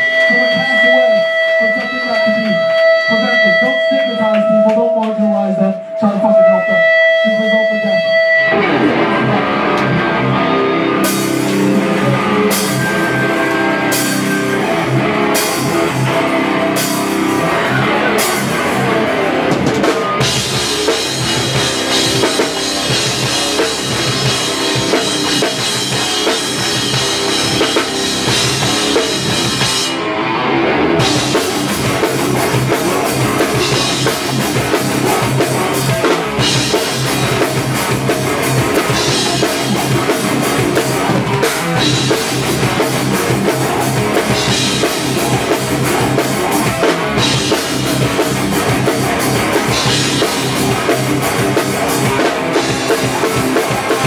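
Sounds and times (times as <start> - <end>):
hardcore band playing live: 0.0 - 54.0.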